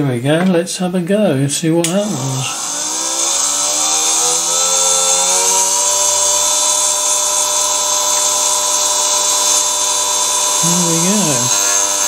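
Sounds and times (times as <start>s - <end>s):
electric spindle whine: 1.9s - 12.0s.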